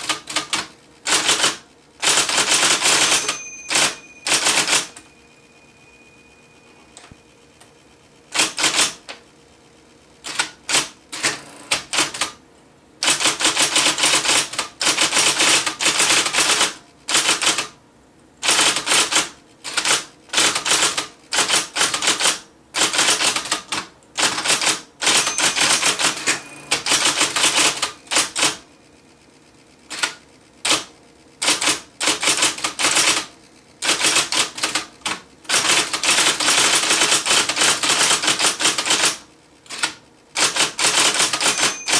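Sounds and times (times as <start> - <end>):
electric typewriter typing: 0.0 - 5.1, 8.3 - 9.2, 10.2 - 12.4, 13.0 - 17.8, 18.4 - 28.8, 29.8 - 41.9.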